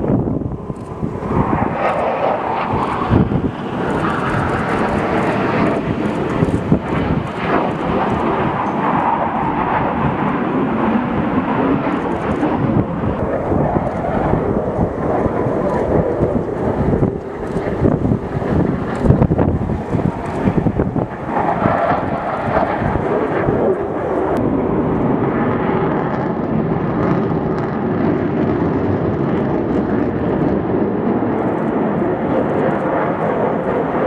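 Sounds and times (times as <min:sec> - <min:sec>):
jet flying past low: 0:00.0 - 0:34.0.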